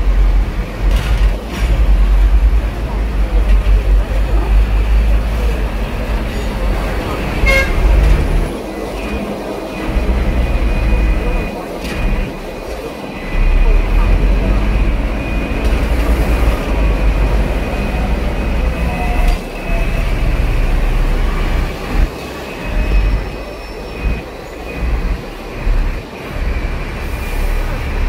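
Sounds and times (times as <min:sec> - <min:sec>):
tram rumbling on track: 0:00.0 - 0:28.0.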